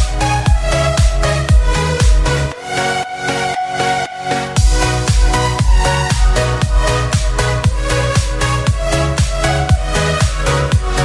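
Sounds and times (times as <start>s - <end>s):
heavy kick drum and bass: 0.0s - 2.5s, 4.6s - 11.0s
electronic dance music: 0.0s - 11.0s.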